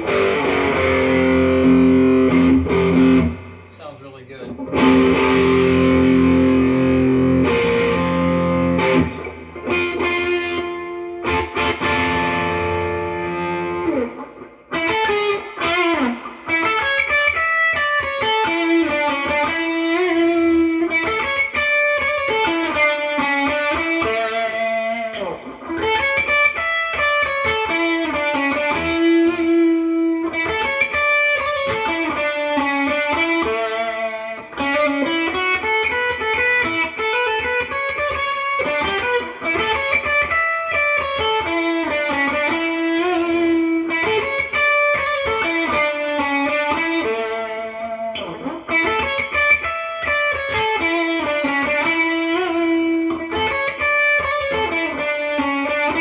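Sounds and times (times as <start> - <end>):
electric guitar melody: 0.0 - 56.0.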